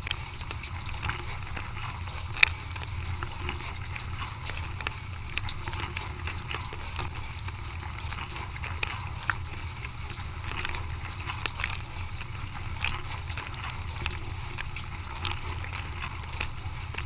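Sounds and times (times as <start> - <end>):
dishwasher pump hum: 0.0 - 17.0.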